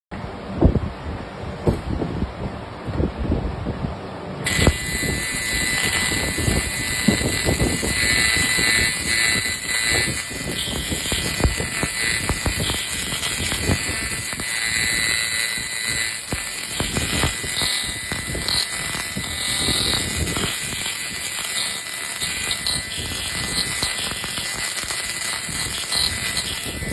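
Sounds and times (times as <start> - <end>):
dense irregular crackle: 4.5 - 26.9
laser cleaning machine hissing: 4.5 - 26.9.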